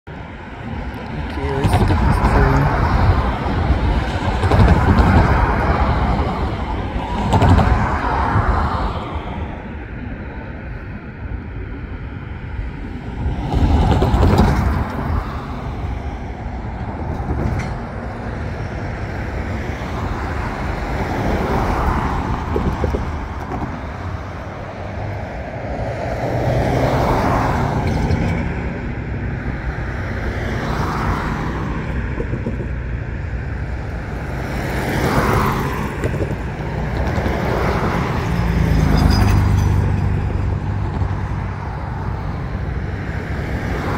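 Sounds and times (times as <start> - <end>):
cars passing: 0.0 - 43.9.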